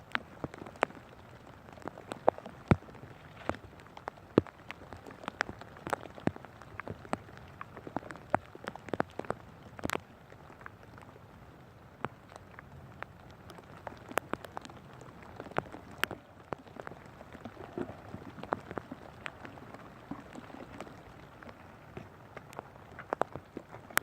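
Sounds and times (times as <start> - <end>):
raindrops tapping close by: 0.0 - 24.0
steady rain falling: 0.0 - 24.0.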